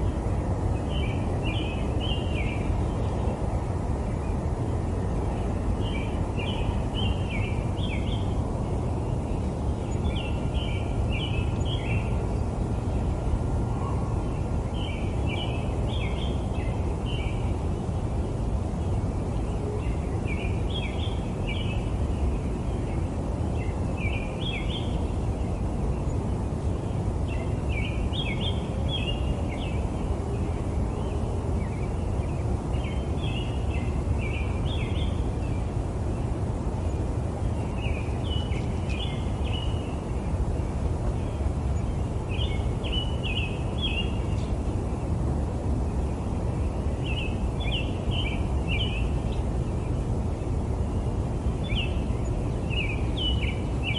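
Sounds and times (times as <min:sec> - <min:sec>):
distant city traffic rumble: 0:00.0 - 0:53.9.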